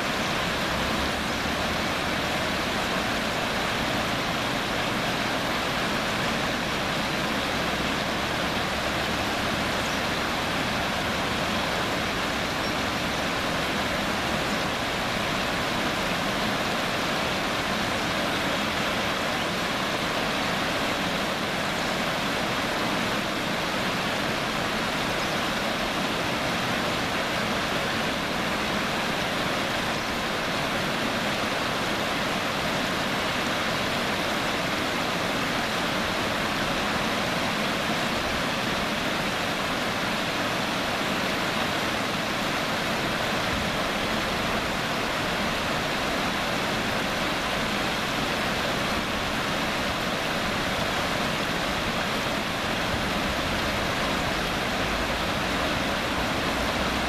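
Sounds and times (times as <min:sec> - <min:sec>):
river running over rocks: 0:00.0 - 0:57.0.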